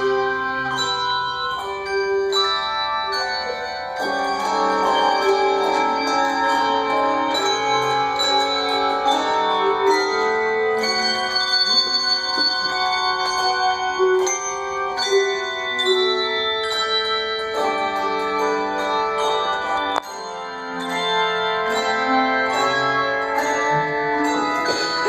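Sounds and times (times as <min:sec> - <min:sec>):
handbell choir playing: 0:00.0 - 0:25.0.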